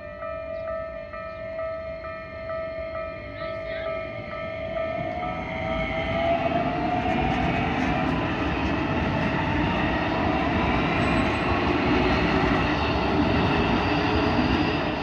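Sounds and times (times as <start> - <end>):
train wheels rumbling on rails: 0.1 - 15.0.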